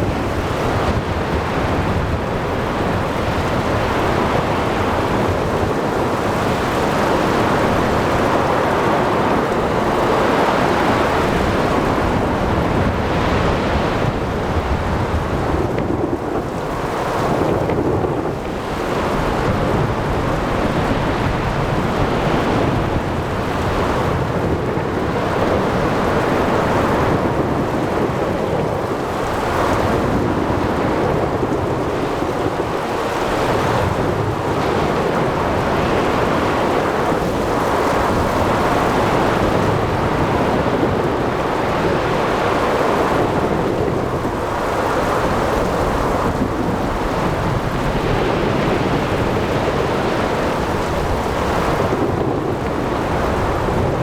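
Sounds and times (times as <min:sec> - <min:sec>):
waves washing in: 0:00.0 - 0:54.0.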